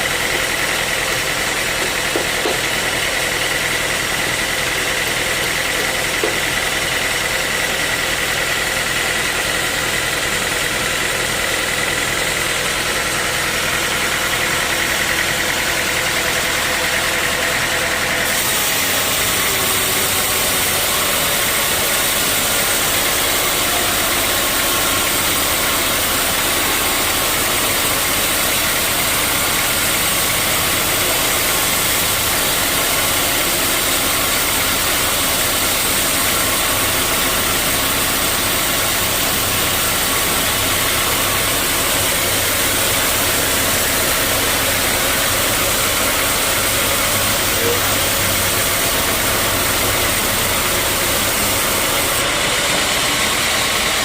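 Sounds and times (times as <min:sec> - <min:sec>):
sawmill saw running with whine: 0:00.0 - 0:54.0.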